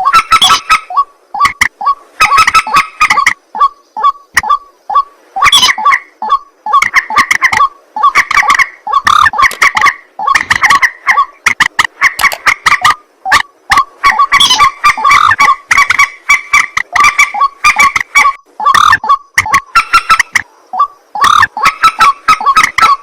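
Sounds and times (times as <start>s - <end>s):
rails harsh croaking calls: 0.0s - 23.0s.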